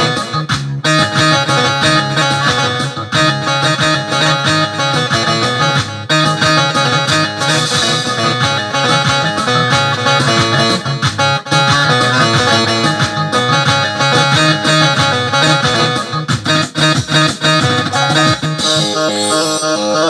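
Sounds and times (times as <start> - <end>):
keyboard music with plucked strings: 0.0 - 20.0.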